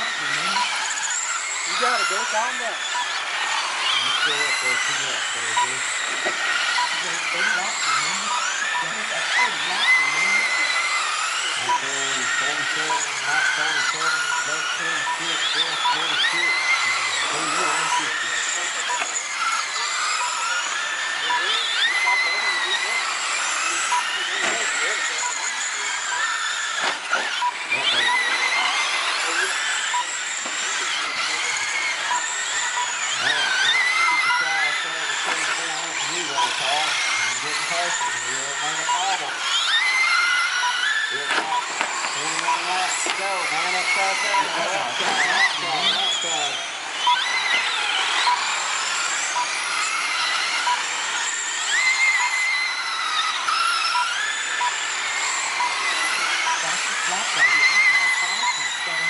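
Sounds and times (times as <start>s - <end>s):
rc car motors whining: 0.0s - 59.0s.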